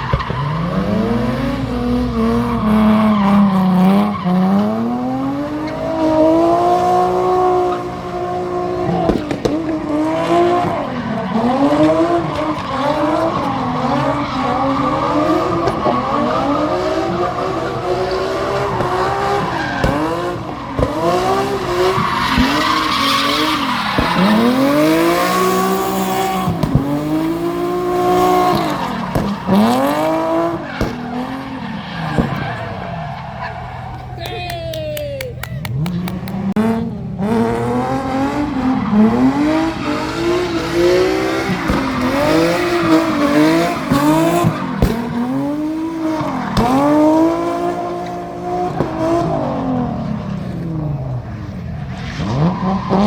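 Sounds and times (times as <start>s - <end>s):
car engine revving: 0.0s - 34.2s, 35.7s - 53.0s
tyres skidding and squealing: 0.0s - 53.0s.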